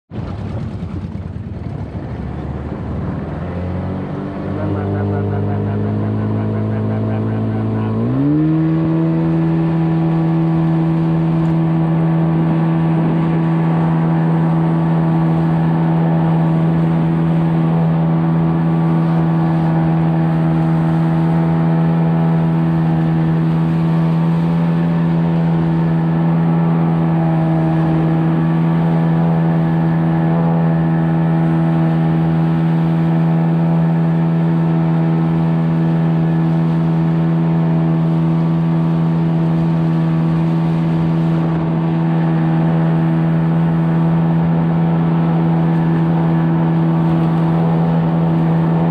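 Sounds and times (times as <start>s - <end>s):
motor drone: 2.1s - 48.9s.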